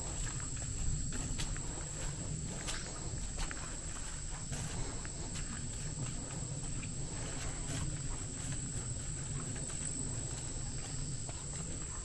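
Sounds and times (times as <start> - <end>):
footsteps on dirt trail: 0.0 - 12.0
insect chorus drone: 0.0 - 12.0.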